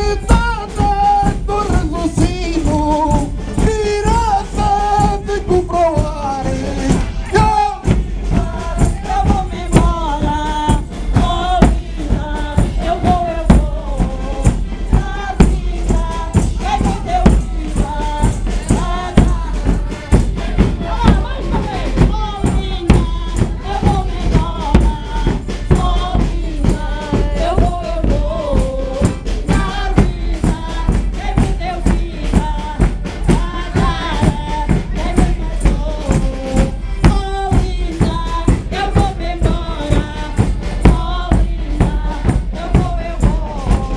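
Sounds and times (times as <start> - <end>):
bass drums beating fast rhythm: 0.0 - 43.9.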